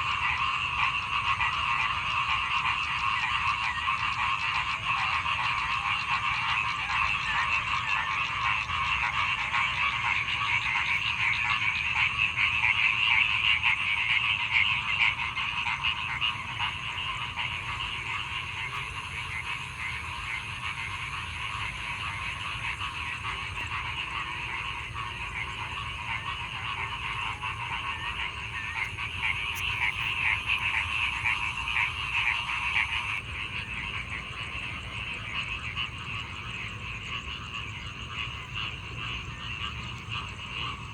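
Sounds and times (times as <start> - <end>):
chorus of frogs croaking: 0.0 - 40.9.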